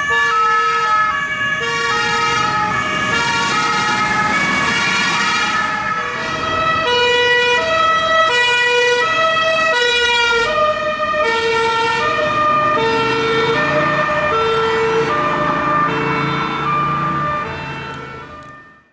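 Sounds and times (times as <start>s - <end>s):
road and engine noise: 0.0s - 18.9s
second siren: 0.0s - 18.9s
two-tone police siren: 0.0s - 18.9s.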